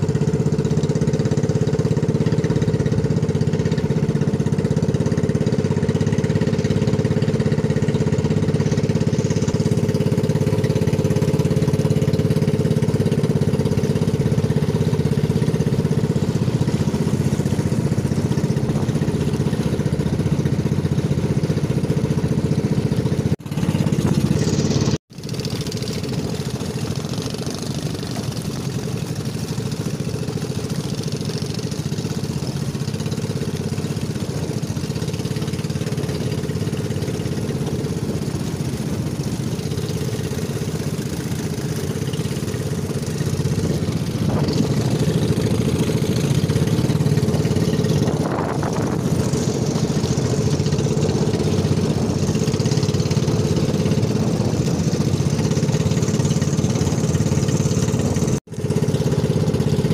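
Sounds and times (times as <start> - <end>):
boat engine running: 0.0 - 59.9
water noise: 0.0 - 59.9
wind: 0.0 - 59.9.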